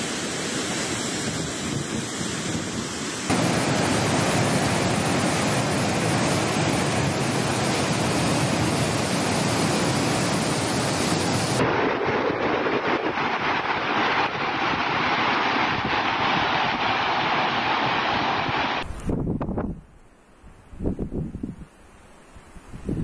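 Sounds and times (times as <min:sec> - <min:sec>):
water rushing over rapids: 0:00.0 - 0:18.8.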